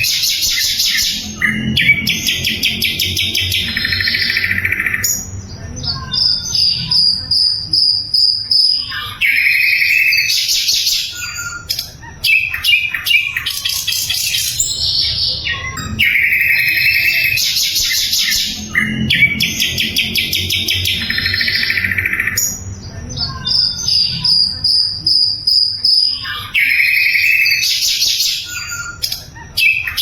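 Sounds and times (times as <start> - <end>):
bird singing trills: 0.0 - 30.0.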